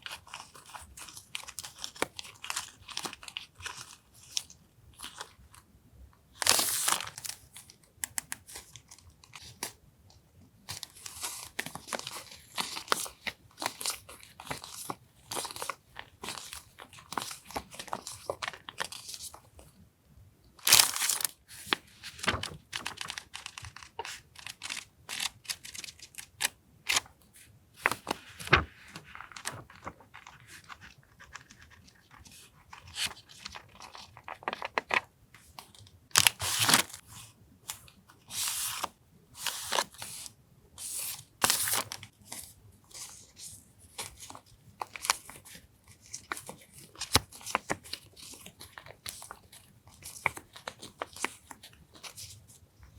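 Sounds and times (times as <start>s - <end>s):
paper rustling and crinkling: 0.0s - 5.5s, 6.4s - 9.8s, 10.7s - 19.6s, 20.6s - 52.6s.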